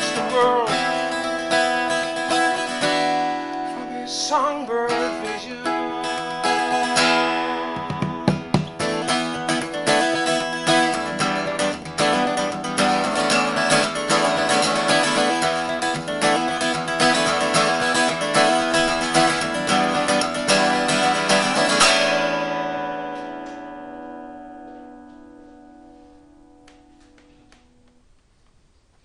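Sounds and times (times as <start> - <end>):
acoustic guitar strummed briskly: 0.0 - 27.8.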